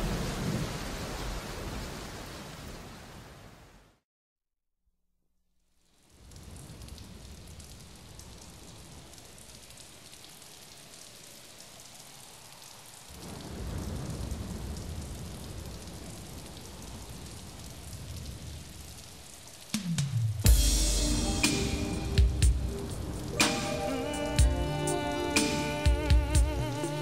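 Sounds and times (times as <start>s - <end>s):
steady rain falling: 0.0s - 4.0s, 5.7s - 27.0s.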